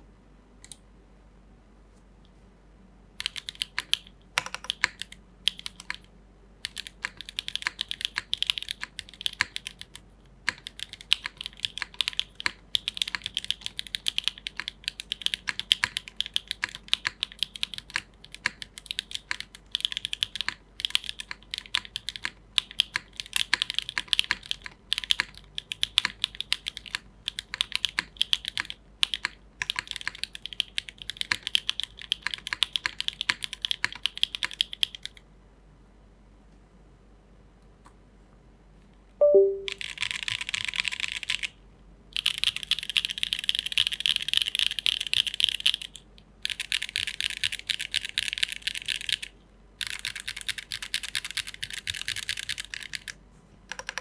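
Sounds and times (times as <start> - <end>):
mechanical keyboard typing: 3.2 - 35.2, 39.2 - 41.5, 42.2 - 54.0.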